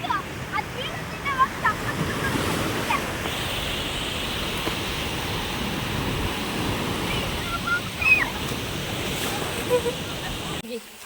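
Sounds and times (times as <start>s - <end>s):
wind rumbling on microphone: 0.0s - 10.6s
sea surf washing in: 0.0s - 11.0s.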